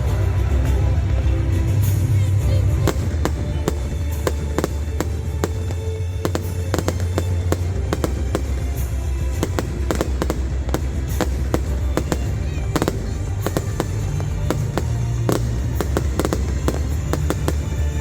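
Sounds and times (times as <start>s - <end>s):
background music with bass: 0.0s - 18.0s
fireworks banging and cracking: 0.0s - 18.0s.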